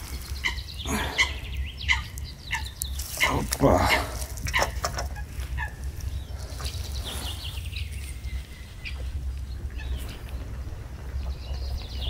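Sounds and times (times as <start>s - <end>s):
small songbirds chirping: 0.0s - 12.0s
steady low rumble: 0.0s - 12.0s.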